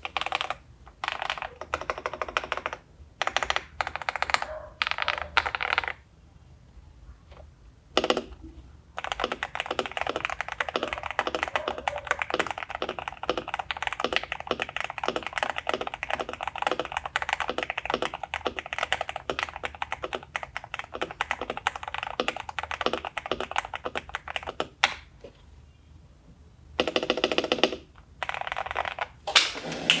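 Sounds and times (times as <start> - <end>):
typing on mechanical keyboard: 0.0 - 6.0, 7.9 - 25.0, 26.8 - 29.2.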